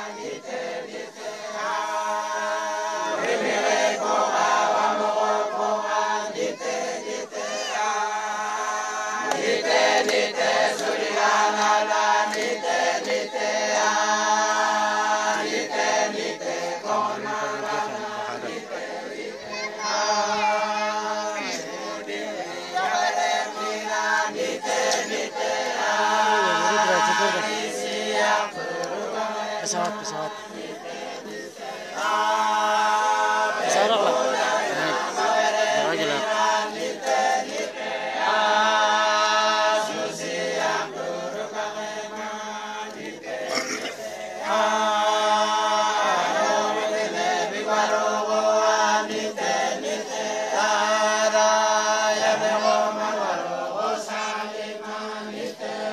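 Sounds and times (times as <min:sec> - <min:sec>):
men singing a cappella hymn: 0:00.0 - 0:55.9.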